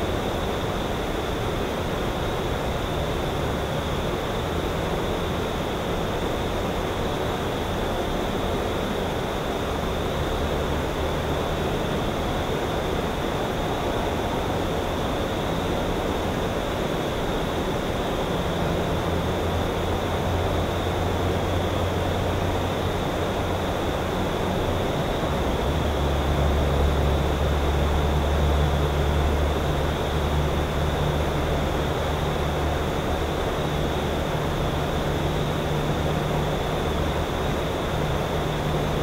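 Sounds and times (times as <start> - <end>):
distant engine drone: 0.0 - 39.0.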